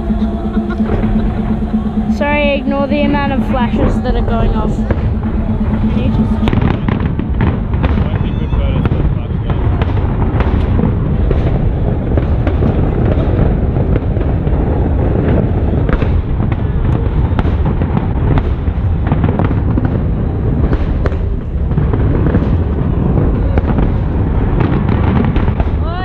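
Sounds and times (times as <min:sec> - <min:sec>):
continuous low rumble: 0:00.0 - 0:26.0
fireworks booms and crackling: 0:00.0 - 0:26.0.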